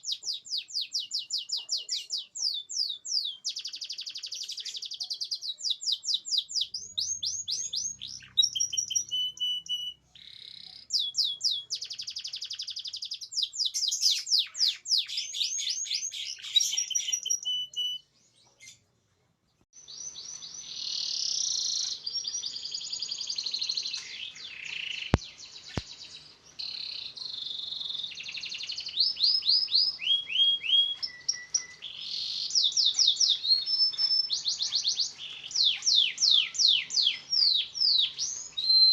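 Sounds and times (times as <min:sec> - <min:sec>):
canary singing trills: 0:00.0 - 0:18.9, 0:19.8 - 0:38.9.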